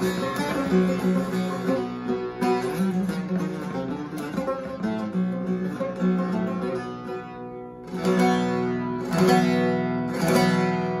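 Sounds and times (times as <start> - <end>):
long-necked lute strummed: 0.0 - 11.0.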